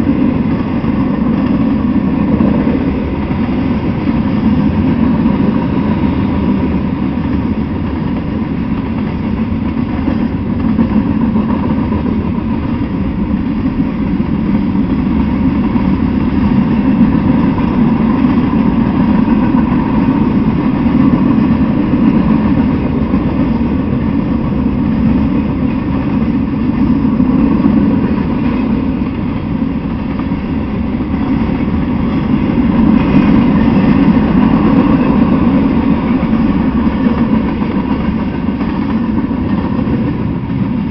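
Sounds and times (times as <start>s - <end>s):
freight train wheels on rails: 0.0s - 40.9s.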